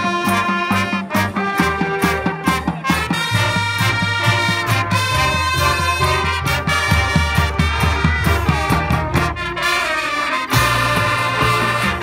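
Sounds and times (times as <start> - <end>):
brass chords: 0.0 - 12.0.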